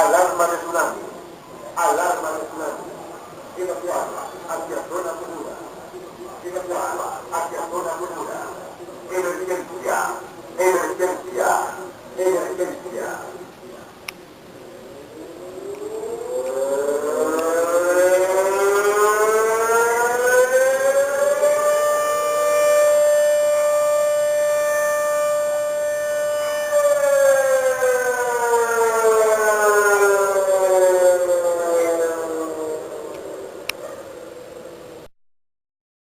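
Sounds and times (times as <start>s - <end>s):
warning siren wailing: 0.0s - 35.1s.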